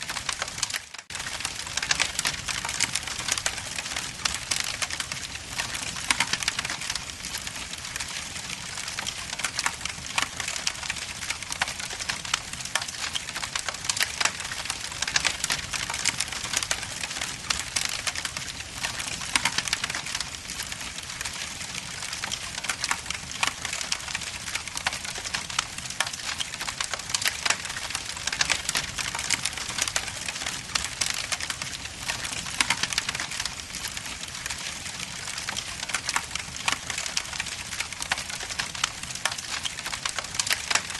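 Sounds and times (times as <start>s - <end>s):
wood logs crackling in fireplace: 0.0s - 40.9s.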